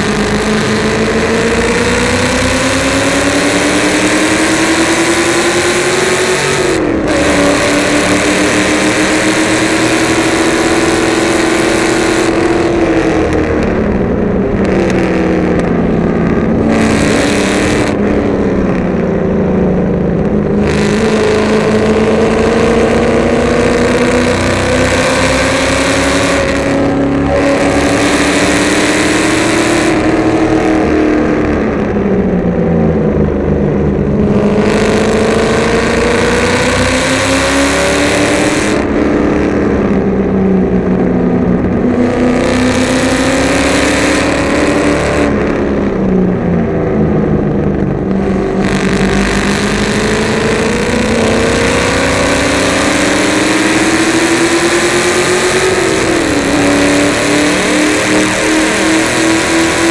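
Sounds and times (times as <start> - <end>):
loud rushing noise: 0.0 - 59.9
race car engine accelerating: 0.0 - 59.9.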